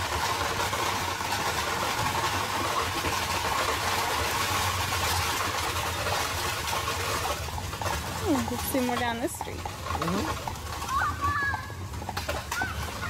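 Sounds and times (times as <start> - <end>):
carriage wheels rumbling: 0.0 - 13.0.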